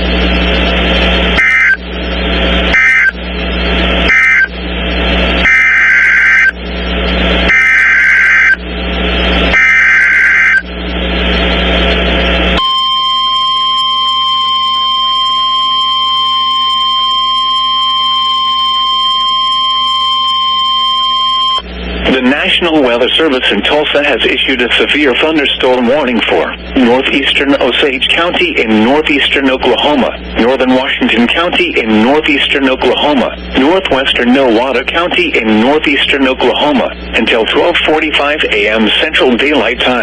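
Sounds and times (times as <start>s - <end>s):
data bursts: 0.0s - 10.7s, 12.2s - 40.0s
steady warning alarm tone: 0.0s - 40.0s.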